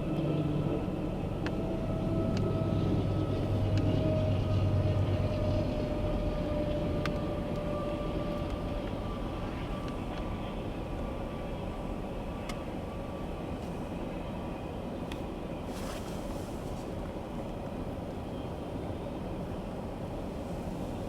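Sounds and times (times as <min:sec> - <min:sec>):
engine drone with whine: 0:00.0 - 0:21.0.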